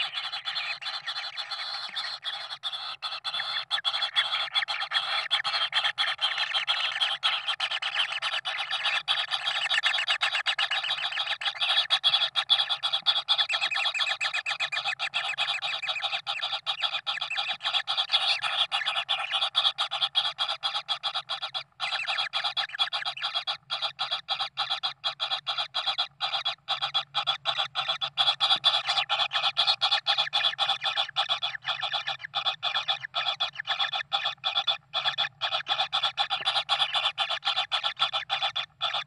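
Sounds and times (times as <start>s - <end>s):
chicks begging with rasping notes: 0.0s - 39.0s.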